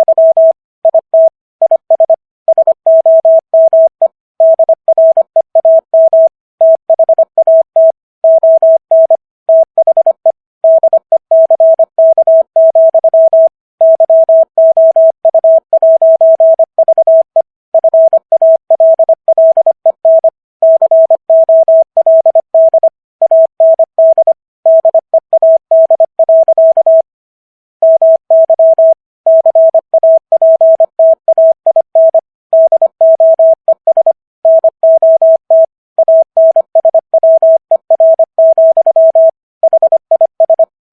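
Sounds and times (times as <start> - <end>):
morse code beeps: 0.0 - 27.1, 27.8 - 40.7.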